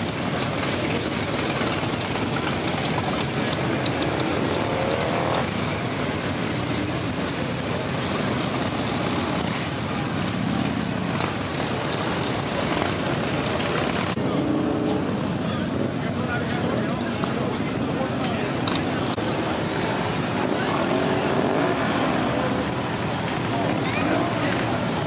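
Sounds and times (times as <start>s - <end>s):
motorcycle engines running: 0.0s - 25.0s
motorcycle engine revving: 0.1s - 15.4s, 18.8s - 25.0s.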